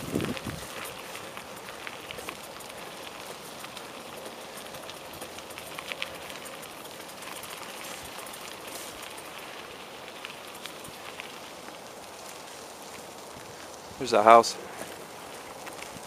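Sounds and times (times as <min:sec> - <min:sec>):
bicycle tyres crunching on gravel: 0:00.0 - 0:16.0.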